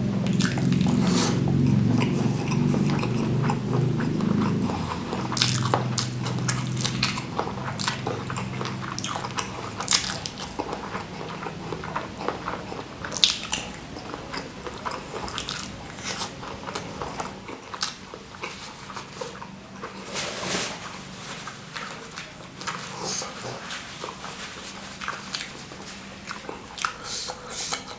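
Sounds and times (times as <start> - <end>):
low steady hum: 0.0 - 27.9
person chewing and crunching: 0.1 - 20.1, 20.8 - 27.9.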